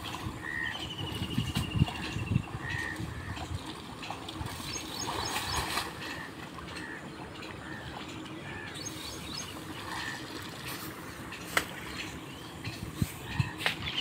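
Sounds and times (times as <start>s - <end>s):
muddy water sloshing and splashing: 0.0s - 14.0s.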